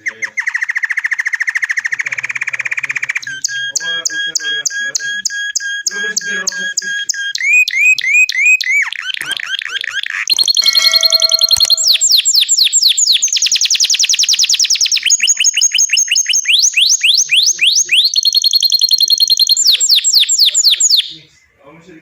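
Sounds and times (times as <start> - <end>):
songbird singing: 0.0 - 21.6.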